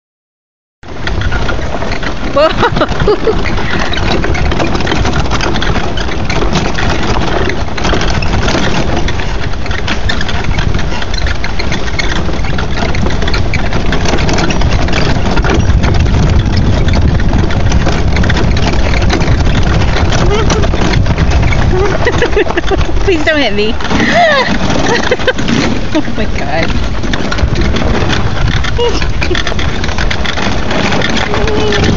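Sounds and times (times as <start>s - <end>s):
go-kart engine running: 0.8s - 31.9s
tyres crunching on gravel: 0.9s - 31.9s.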